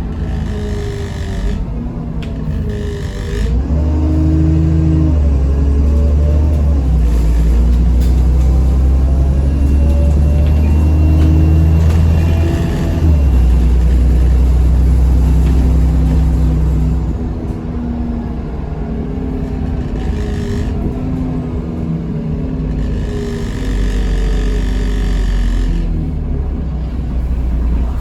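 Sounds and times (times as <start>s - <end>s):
bus diesel engine: 0.0s - 28.0s.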